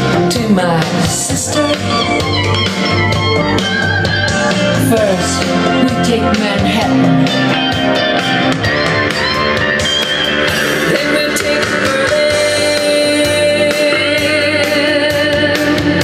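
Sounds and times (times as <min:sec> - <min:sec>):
rock song: 0:00.0 - 0:16.0.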